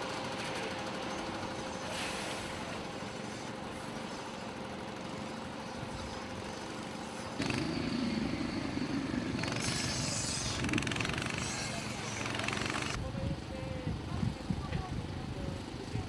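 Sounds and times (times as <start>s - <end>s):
truck engine running: 0.0s - 13.0s
loud low machine noise: 0.0s - 16.0s.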